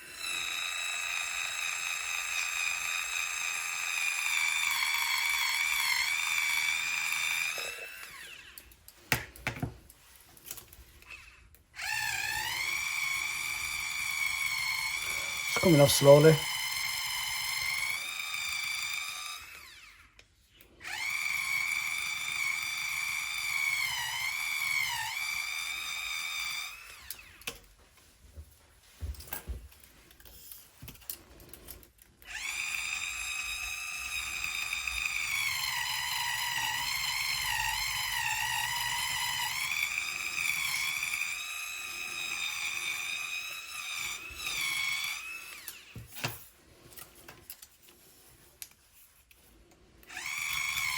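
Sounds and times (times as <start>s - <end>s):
electric hand tool motor whining: 0.0s - 9.5s, 10.4s - 27.7s, 31.3s - 47.3s, 48.9s - 50.9s.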